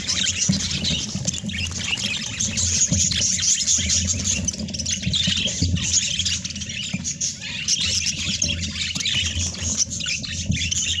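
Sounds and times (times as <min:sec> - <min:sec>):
budgies chirping and chattering: 0:00.0 - 0:11.0.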